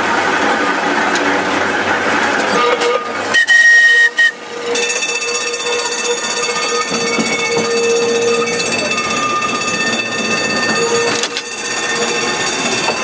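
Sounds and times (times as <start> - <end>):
tram wheels rushing on rails: 0.0 - 13.0.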